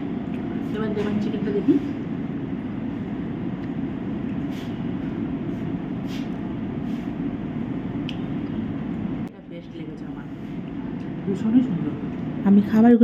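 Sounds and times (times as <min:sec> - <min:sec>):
restaurant room rumble: 0:00.0 - 0:13.0.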